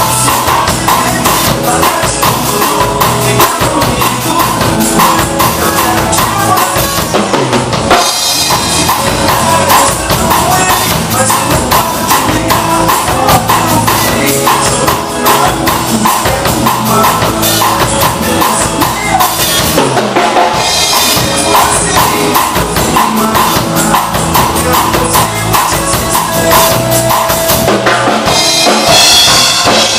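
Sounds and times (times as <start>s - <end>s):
drum kit playing a beat: 0.0s - 29.9s
recorded song: 0.0s - 29.9s.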